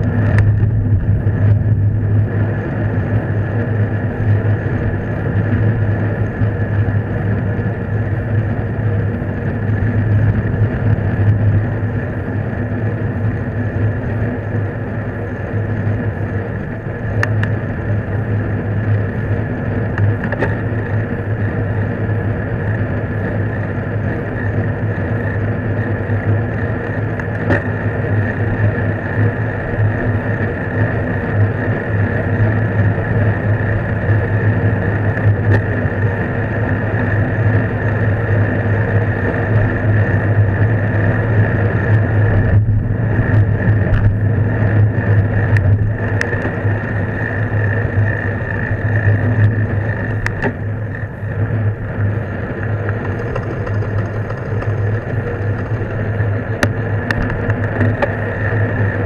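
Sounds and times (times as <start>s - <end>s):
road noise while cycling: 0.0s - 59.0s
wind rumble on microphone: 0.0s - 59.0s.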